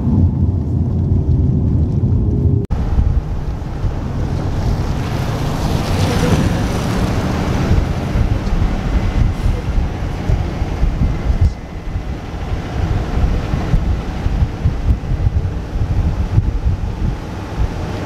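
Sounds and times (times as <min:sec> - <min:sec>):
truck road and engine noise: 0:00.0 - 0:18.0
wind rushing over microphone: 0:00.0 - 0:18.0.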